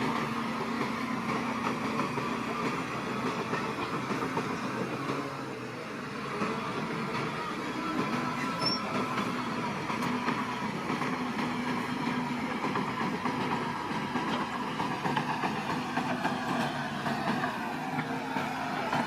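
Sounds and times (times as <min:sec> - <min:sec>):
bulldozer engine drone: 0:00.0 - 0:19.0.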